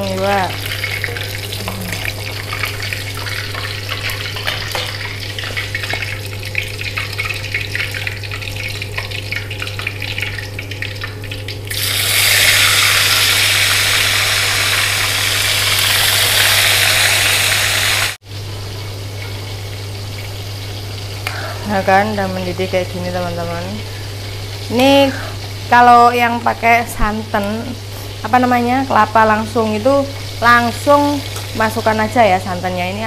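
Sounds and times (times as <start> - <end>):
fish frying in hot oil: 0.0 - 33.0.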